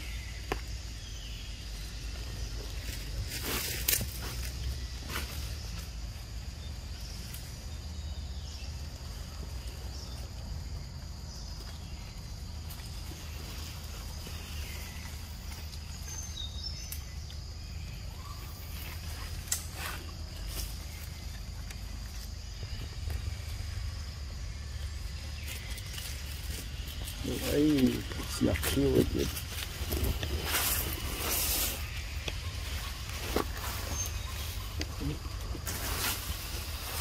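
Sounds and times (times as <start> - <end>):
insect drone: 0.0 - 37.0.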